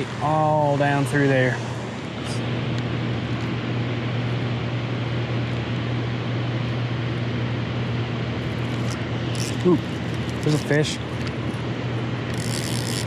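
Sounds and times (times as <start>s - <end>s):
low even hum: 0.0s - 13.0s.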